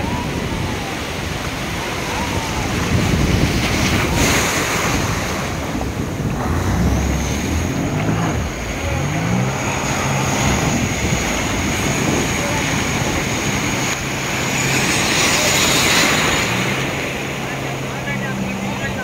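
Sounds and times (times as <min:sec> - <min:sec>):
jet ski engine revving: 0:00.0 - 0:19.0
sea surf breaking: 0:00.0 - 0:19.0
wind buffeting microphone: 0:00.0 - 0:19.0.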